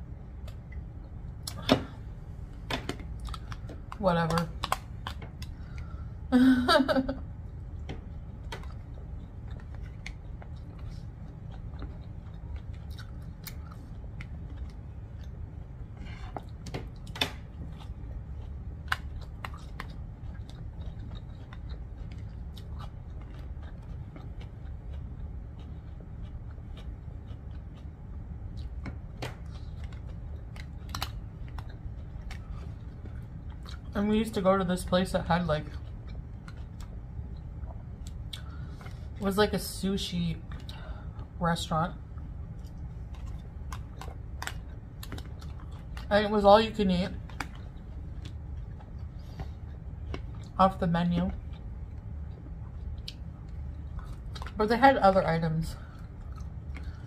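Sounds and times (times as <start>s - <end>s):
low hum: 0.0s - 57.0s
chewing: 3.0s - 6.1s, 7.5s - 39.2s, 42.0s - 50.6s, 51.2s - 54.7s, 55.8s - 57.0s.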